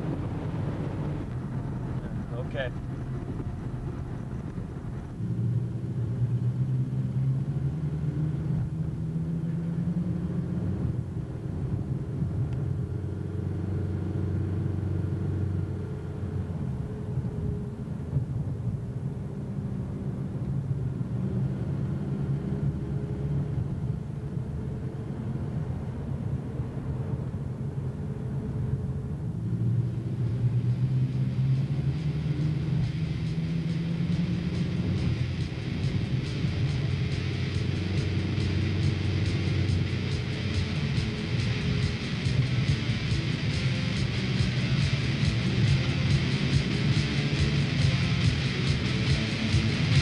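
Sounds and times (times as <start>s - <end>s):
car engine and road noise: 0.0s - 50.0s.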